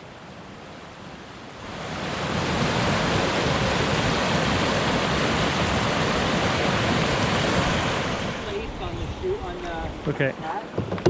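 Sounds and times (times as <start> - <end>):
river rapid rushing: 0.0 - 10.7.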